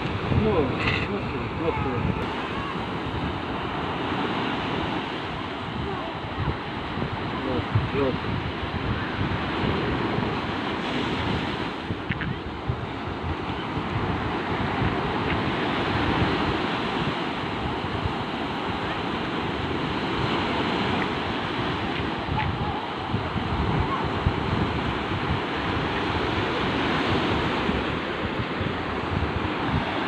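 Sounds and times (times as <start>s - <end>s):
sea waves washing on beach: 0.0s - 30.0s
wind buffeting microphone: 0.0s - 30.0s.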